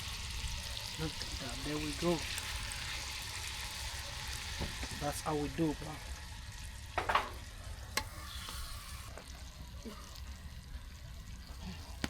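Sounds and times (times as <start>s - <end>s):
fish sizzling in a pot: 0.0s - 12.0s.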